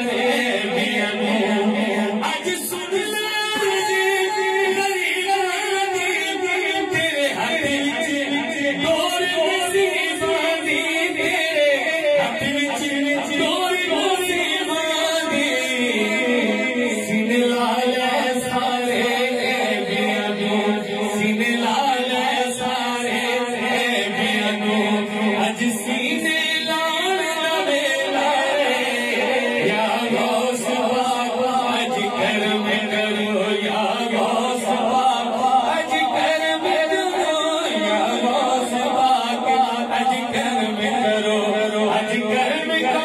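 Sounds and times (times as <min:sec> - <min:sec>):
man singing into a microphone: 0:00.0 - 0:43.0.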